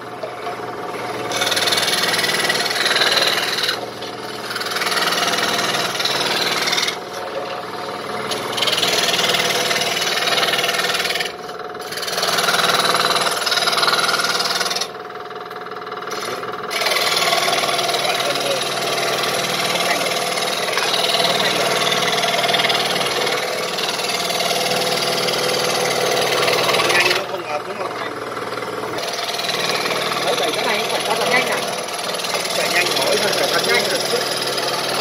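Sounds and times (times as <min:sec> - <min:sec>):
saw blade cutting wood: 0:00.0 - 0:15.0, 0:16.0 - 0:35.0
jigsaw machine humming: 0:00.0 - 0:35.0.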